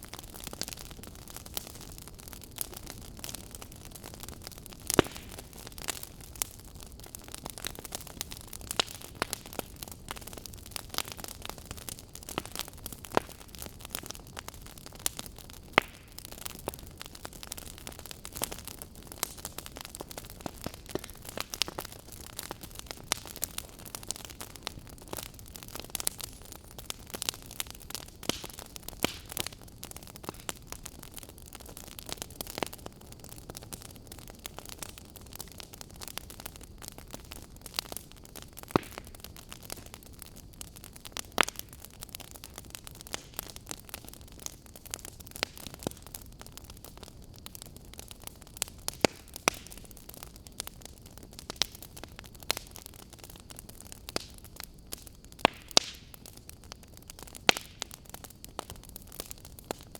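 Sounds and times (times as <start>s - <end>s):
fire crackling and popping: 0.0s - 59.9s
low hiss of fire: 0.0s - 59.9s.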